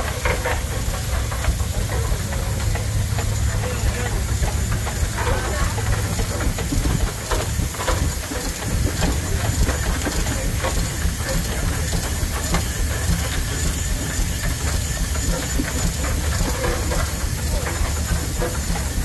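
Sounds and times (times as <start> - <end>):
low engine rumble: 0.0 - 19.0
steam hissing: 0.0 - 19.0.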